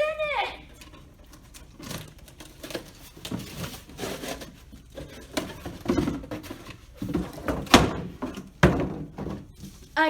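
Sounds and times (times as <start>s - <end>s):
box rustling and rubbing: 0.6s - 10.0s.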